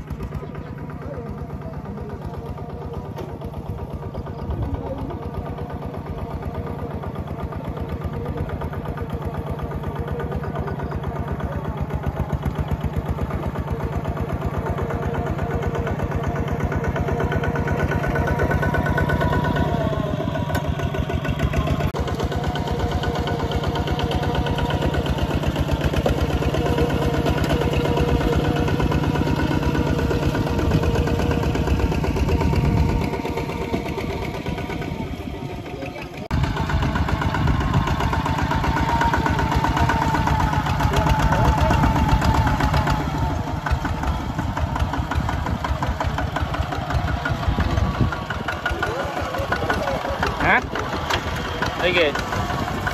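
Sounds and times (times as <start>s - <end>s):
diesel tractor engine running: 0.0s - 52.9s.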